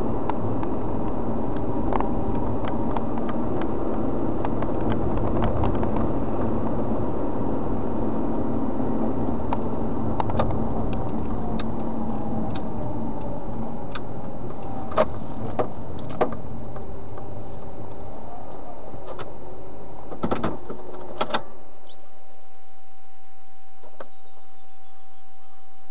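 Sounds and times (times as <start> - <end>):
car engine and tyre noise: 0.0 - 25.9.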